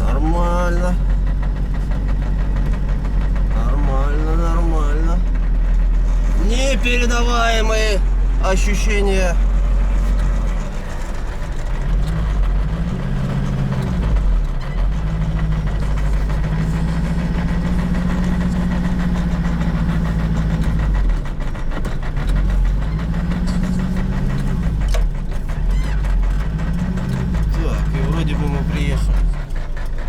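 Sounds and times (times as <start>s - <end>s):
truck engine running inside cab: 0.0s - 30.0s.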